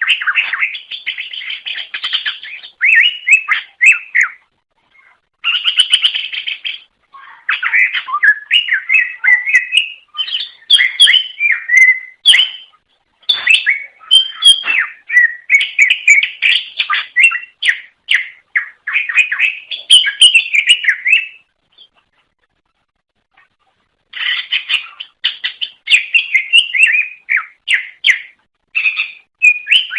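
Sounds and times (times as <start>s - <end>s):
bird singing chirps and warbles: 0.0s - 29.9s.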